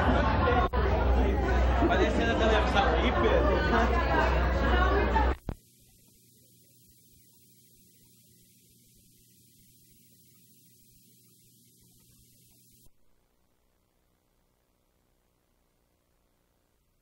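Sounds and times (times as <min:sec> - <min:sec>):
electrical hum: 0:00.3 - 0:17.0
high tape hiss: 0:00.6 - 0:17.0.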